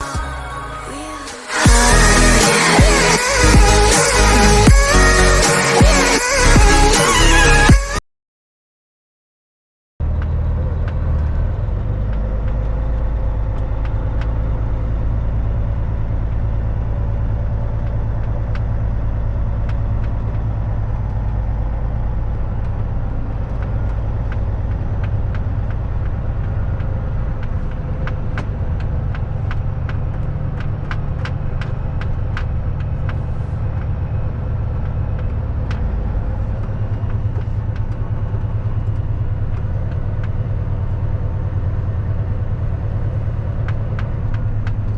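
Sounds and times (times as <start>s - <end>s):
truck diesel engine running: 0.0s - 7.9s, 10.0s - 44.9s.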